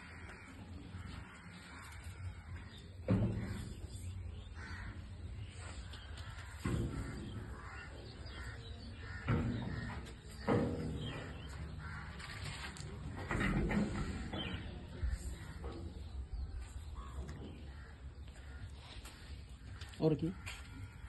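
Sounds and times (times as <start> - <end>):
crows cawing: 0.0 - 13.0, 13.9 - 21.0.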